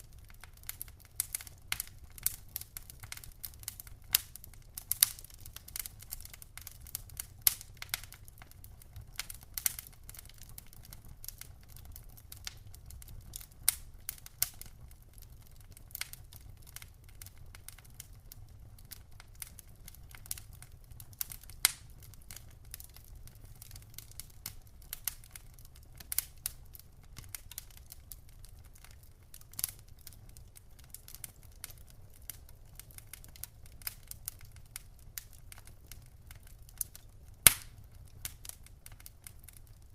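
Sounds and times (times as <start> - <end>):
low rumble of fire: 0.0 - 39.9
wood fire crackling and popping: 0.0 - 39.9.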